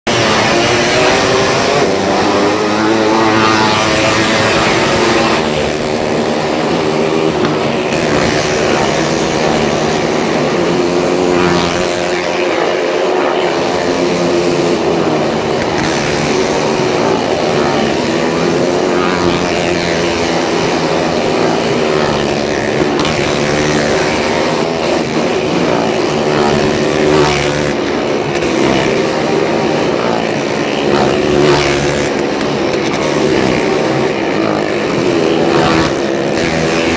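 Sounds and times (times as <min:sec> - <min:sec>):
motorcycle engines running hard: 0:00.0 - 0:36.9.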